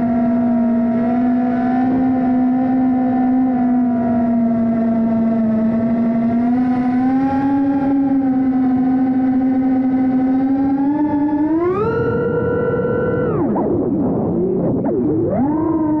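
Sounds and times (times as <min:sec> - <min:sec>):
quadcopter propellers whining: 0:00.0 - 0:16.0.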